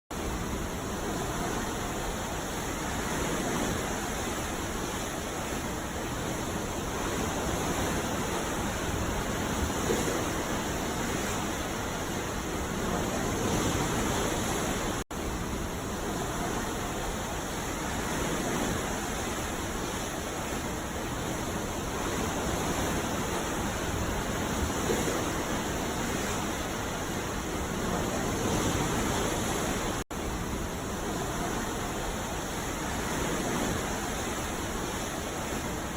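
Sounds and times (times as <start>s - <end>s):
ocean waves breaking on beach: 0.1s - 35.9s.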